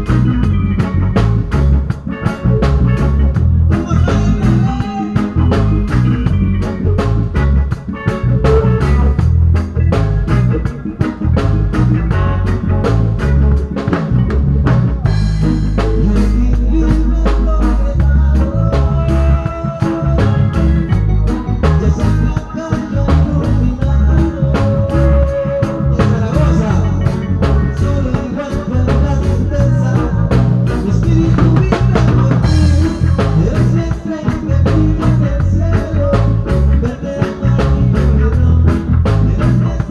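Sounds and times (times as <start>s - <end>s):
band playing ska music: 0.0s - 39.9s
held bass note: 0.0s - 39.9s.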